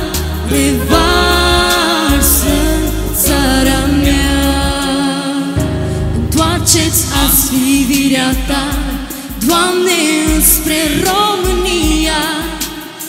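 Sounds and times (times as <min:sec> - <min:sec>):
live worship song: 0:00.0 - 0:13.0.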